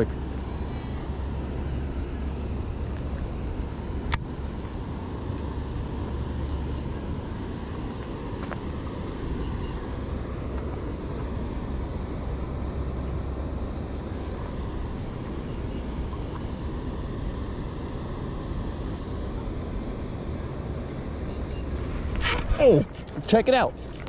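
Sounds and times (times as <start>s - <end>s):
low rumbling background noise: 0.0s - 24.0s.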